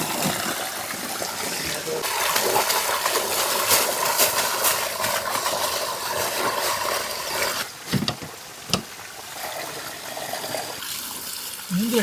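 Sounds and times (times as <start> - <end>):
water pouring and splashing: 0.0 - 12.0.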